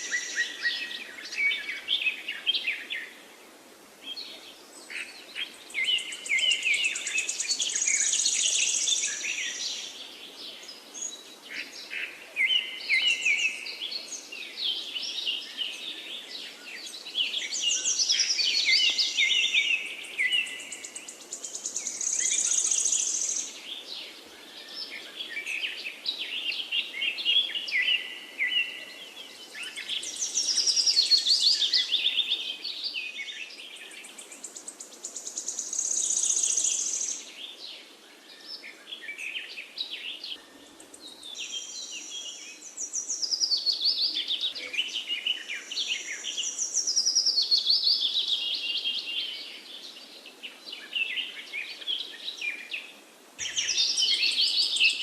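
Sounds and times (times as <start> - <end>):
faint hiss: 0.0 - 55.0
songbirds singing: 0.0 - 55.0.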